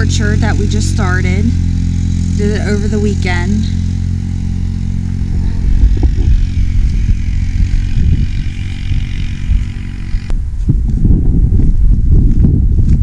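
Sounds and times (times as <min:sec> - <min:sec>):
farm vehicle engine running: 0:00.0 - 0:10.7.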